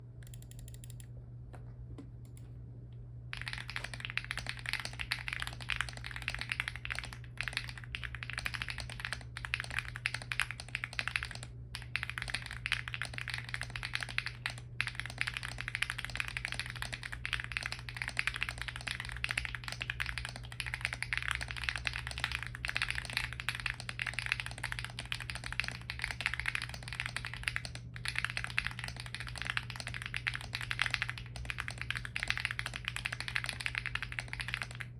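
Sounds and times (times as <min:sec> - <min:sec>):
low steady hum: 0:00.0 - 0:34.9
mechanical keyboard typing: 0:00.2 - 0:01.1, 0:03.3 - 0:34.9.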